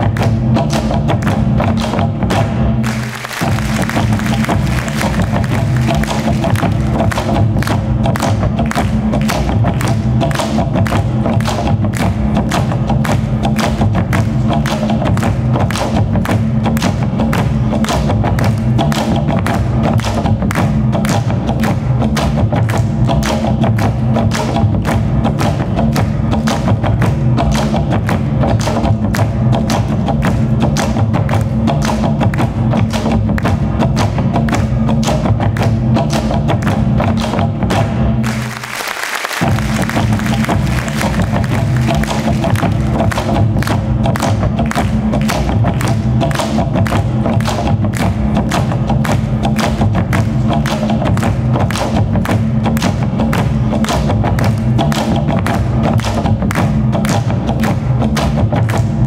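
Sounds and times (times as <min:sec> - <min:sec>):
driving drum beat: 0:00.0 - 0:59.0.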